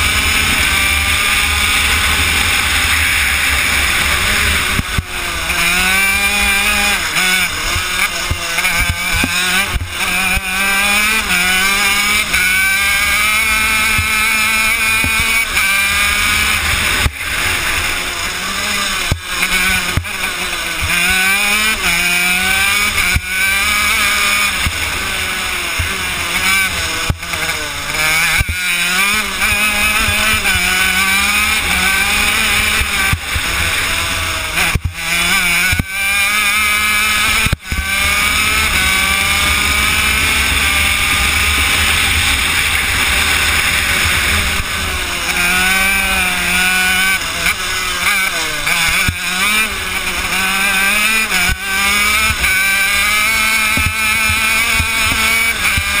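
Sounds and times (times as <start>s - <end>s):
two-stroke kart engine revving: 0.0s - 56.0s.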